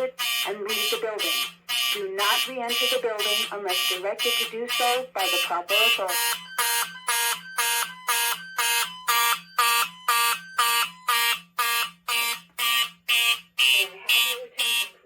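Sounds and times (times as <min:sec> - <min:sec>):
pulsing fire alarm horns: 0:00.0 - 0:15.0.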